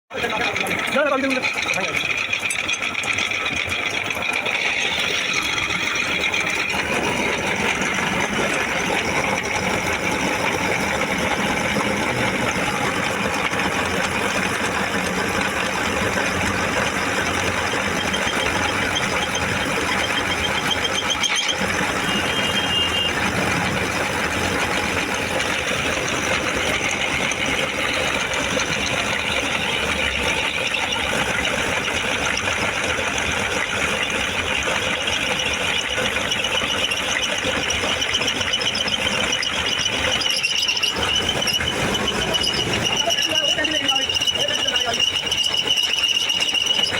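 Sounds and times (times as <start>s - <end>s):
machine whirring and rattling: 0.1s - 46.9s.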